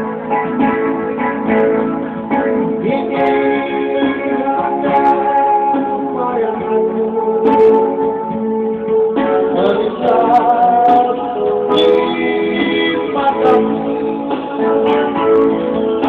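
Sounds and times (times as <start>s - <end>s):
strummed guitar: 0.0s - 16.0s
person singing: 2.3s - 16.0s.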